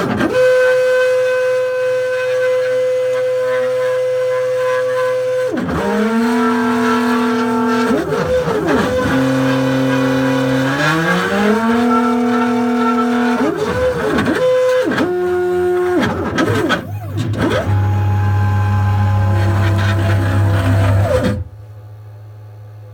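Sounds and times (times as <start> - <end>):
stepper motors whining: 0.0 - 21.6.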